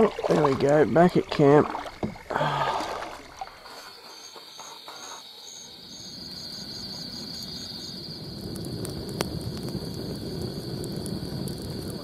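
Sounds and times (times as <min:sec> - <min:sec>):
campfire crackling: 0:00.0 - 0:12.0
crickets chirping: 0:00.0 - 0:12.0.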